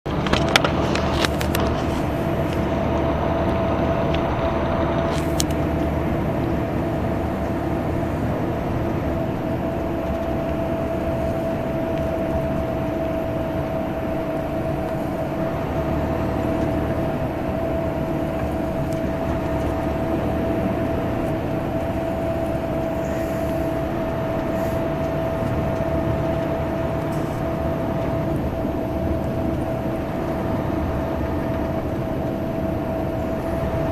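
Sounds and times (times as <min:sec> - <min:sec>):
bus engine rumbling: 0:00.0 - 0:33.9
road and tyre noise: 0:00.0 - 0:33.9
constant high whine: 0:00.1 - 0:33.9.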